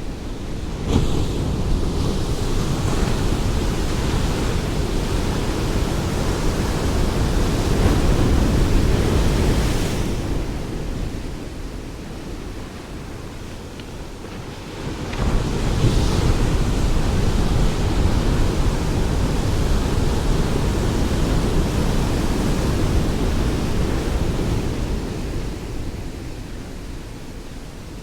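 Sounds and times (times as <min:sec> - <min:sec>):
ocean waves breaking: 0:00.0 - 0:27.2.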